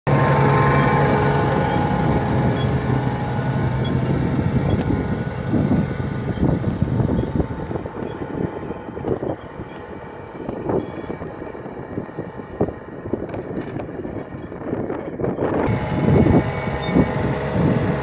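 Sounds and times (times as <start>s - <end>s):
tractor engine under load: 0.1s - 18.0s.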